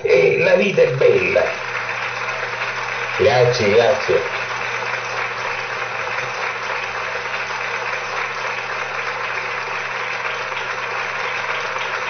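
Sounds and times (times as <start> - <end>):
constant hiss: 0.0 - 12.0.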